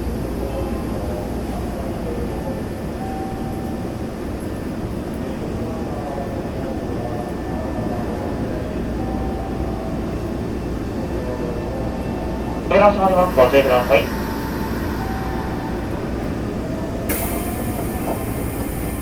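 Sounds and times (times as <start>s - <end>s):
train car rumble and hum: 0.0s - 19.0s.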